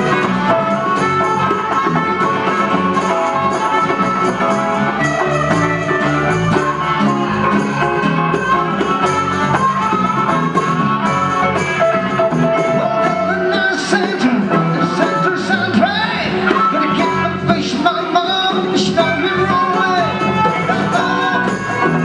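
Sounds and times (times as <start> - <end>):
electric guitar: 0.0 - 22.0
hand drums: 0.0 - 22.0
harmonica: 0.0 - 22.0
strummed acoustic guitars: 0.0 - 22.0.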